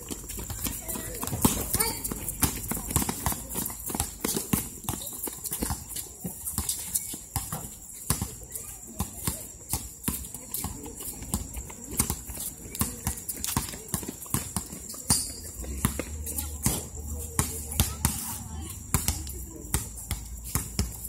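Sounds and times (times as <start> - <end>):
sneaker footfalls on concrete: 0.0 - 21.0.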